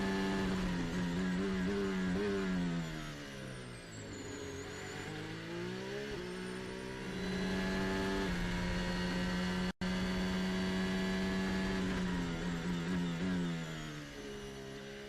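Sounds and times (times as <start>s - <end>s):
racing car engine at speed: 0.0s - 15.0s.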